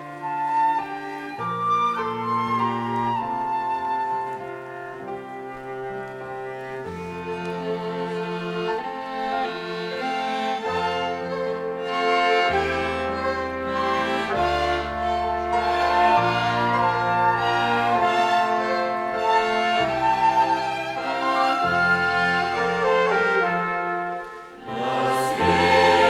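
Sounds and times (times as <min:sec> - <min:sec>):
string orchestra playing hymn: 0:00.0 - 0:26.0.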